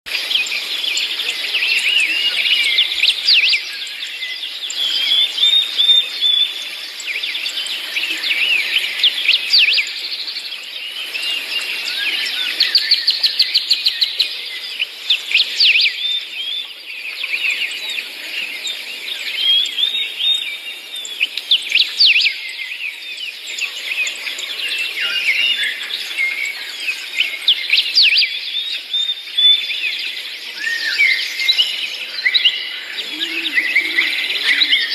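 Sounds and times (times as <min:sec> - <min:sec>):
small birds chirping and trilling: 0:00.1 - 0:34.9.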